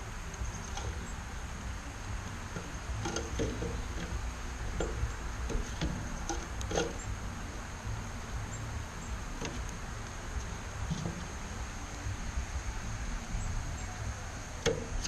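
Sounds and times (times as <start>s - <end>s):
birds pecking and tapping: 0.0s - 12.4s, 14.5s - 15.0s
steady low hum: 0.0s - 15.0s.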